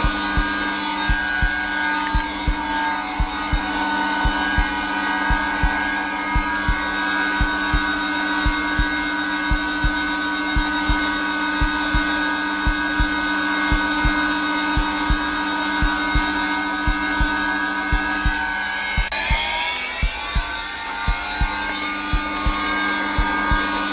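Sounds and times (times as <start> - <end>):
heartbeat thumps: 0.0 - 23.9
vacuum cleaner motor whine: 0.0 - 23.9.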